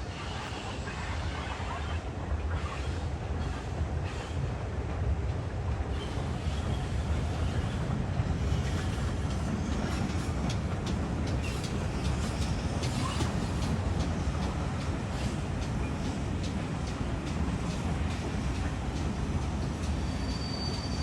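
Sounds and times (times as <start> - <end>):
train rumbling in motion: 0.0 - 21.0.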